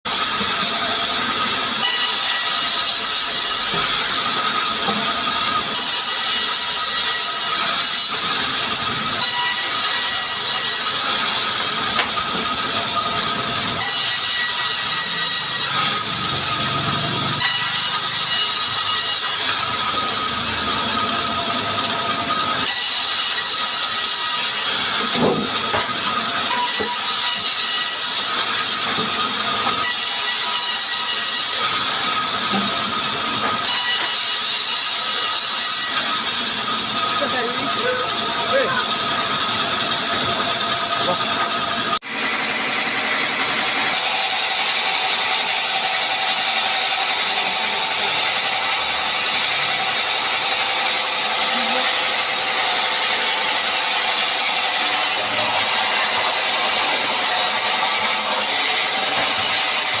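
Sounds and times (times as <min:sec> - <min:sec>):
wood-sawing machinery hissing: 0:00.1 - 1:00.0.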